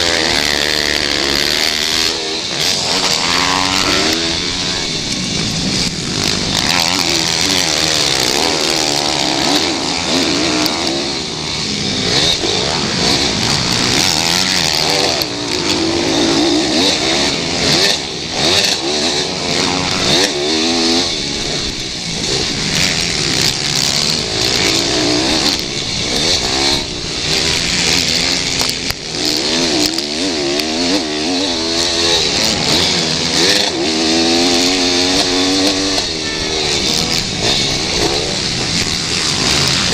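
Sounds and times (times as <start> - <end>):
pit bike engines revving: 0.0 - 39.9.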